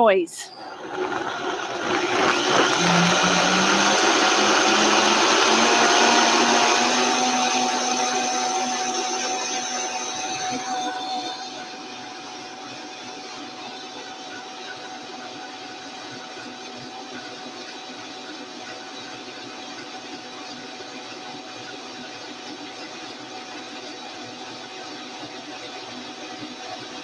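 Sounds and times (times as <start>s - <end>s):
blender motor running: 0.5s - 27.0s.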